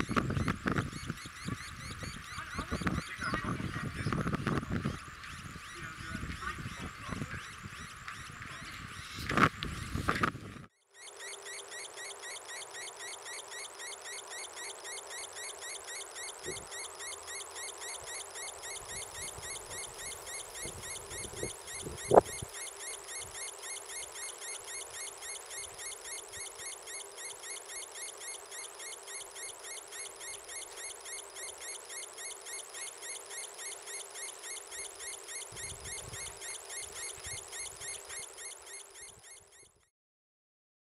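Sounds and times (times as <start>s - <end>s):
high-pitched electronic chirp: 0.0s - 10.1s, 10.8s - 39.9s
steady low hum: 0.0s - 39.5s.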